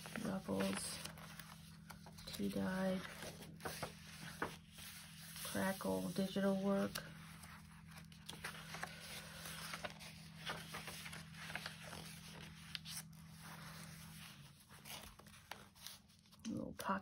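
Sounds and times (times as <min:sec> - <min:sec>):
paper pages turning: 0:00.0 - 0:16.4
low steady hum: 0:00.0 - 0:17.0.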